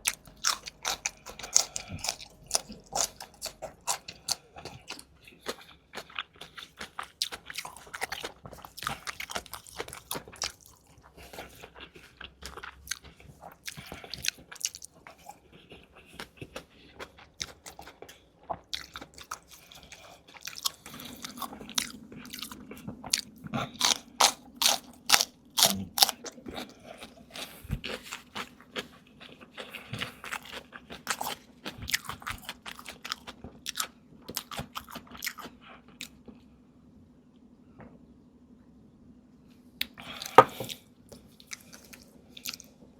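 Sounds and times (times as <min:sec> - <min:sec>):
chewing crunchy food: 0:00.0 - 0:36.5, 0:39.8 - 0:42.9.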